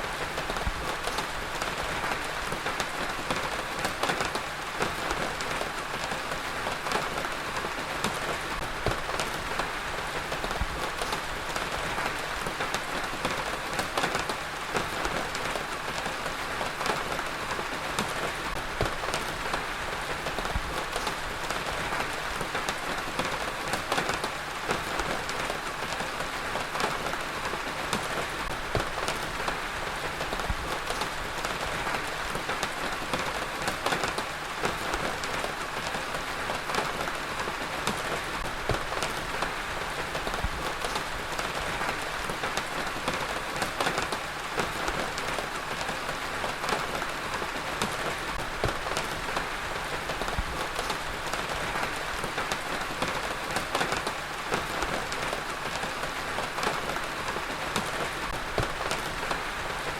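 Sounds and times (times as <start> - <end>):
heavy rain falling: 0.0 - 59.9
raindrop impacts on a surface: 0.2 - 59.9.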